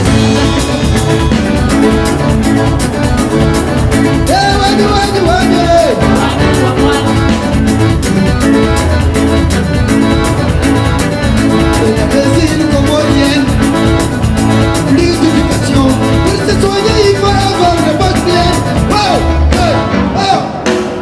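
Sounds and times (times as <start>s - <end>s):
wavering lead melody: 0.0s - 20.8s
live band music: 0.0s - 21.0s.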